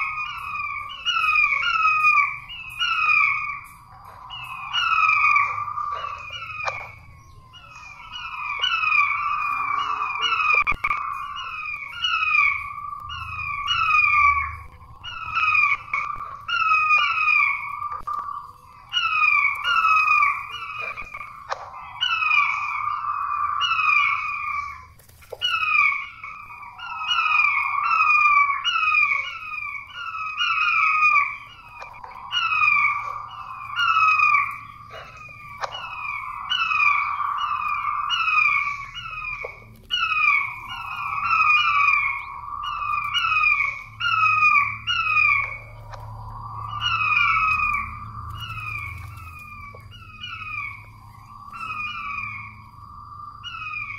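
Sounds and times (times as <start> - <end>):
quail calling: 0.0 - 53.9.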